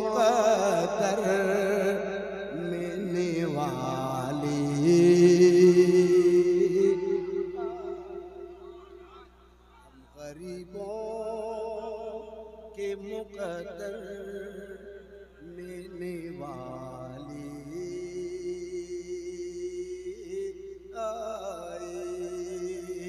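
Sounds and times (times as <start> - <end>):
man singing: 0.0 - 14.8, 15.4 - 23.0.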